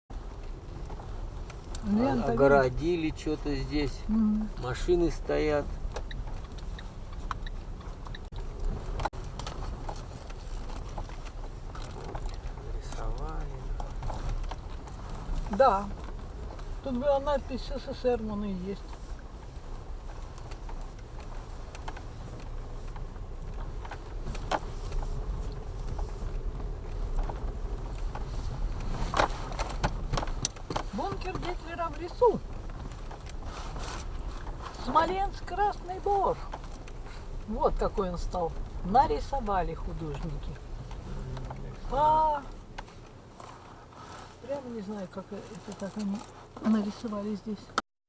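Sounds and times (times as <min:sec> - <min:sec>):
car engine and road rumble: 0:00.1 - 0:47.8
bodywork knocks and rattles: 0:04.6 - 0:18.1, 0:18.8 - 0:44.4.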